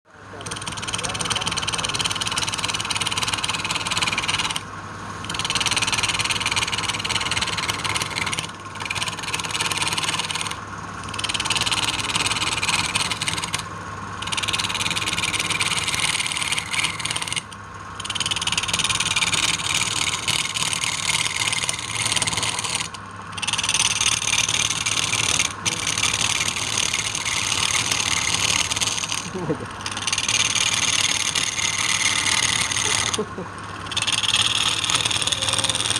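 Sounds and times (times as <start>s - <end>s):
woodworking machine motor hum: 0.1s - 35.9s.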